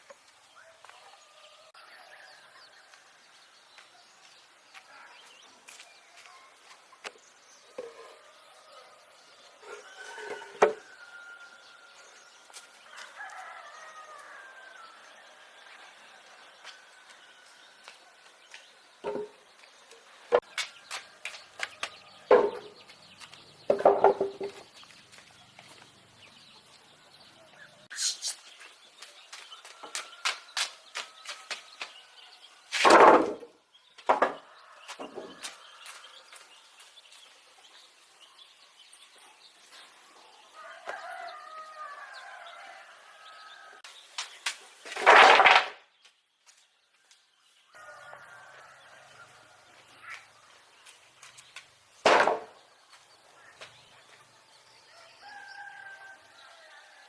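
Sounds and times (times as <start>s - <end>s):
small birds chirping: 0.0s - 32.8s, 33.6s - 45.0s, 45.9s - 57.0s.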